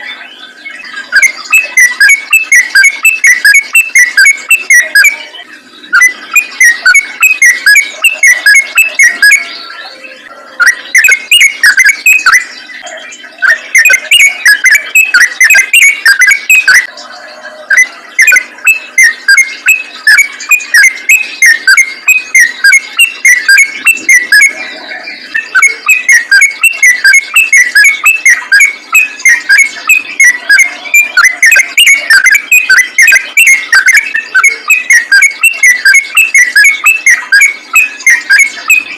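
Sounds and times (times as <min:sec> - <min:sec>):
bulbul singing rapid notes: 0:00.0 - 0:38.9.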